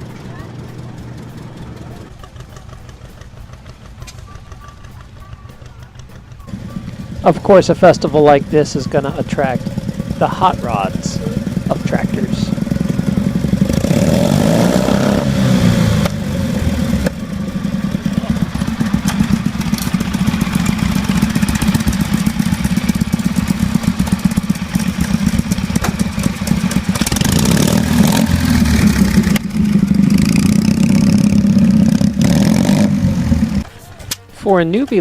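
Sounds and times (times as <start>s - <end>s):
tractor engines running loud: 0.0s - 35.0s.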